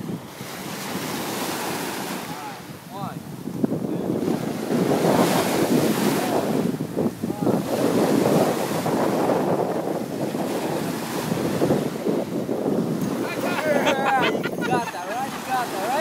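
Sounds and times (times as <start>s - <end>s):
surf breaking on a beach: 0.0s - 16.0s
wind buffeting the microphone: 0.0s - 16.0s.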